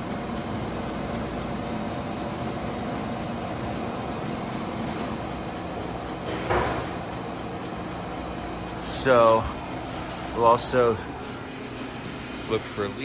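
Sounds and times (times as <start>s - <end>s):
compressor and fan humming: 0.0s - 13.0s.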